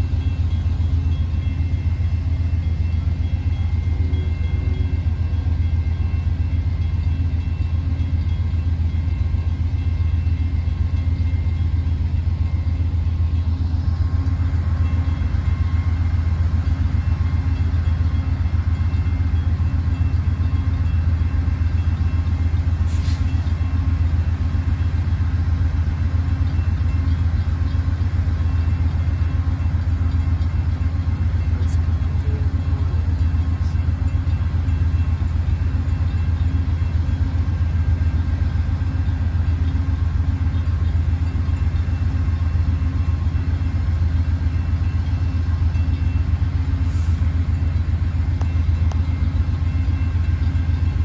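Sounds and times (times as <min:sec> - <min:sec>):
diesel train rumbling: 0:00.0 - 0:51.0
faint steady tones: 0:00.0 - 0:51.0.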